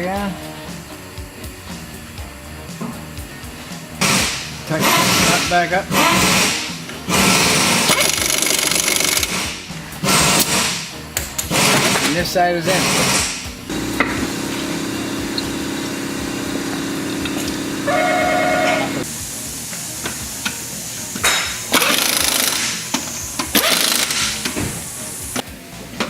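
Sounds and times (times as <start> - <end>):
pneumatic impact wrench rattling: 0.0 - 18.0, 18.7 - 25.5.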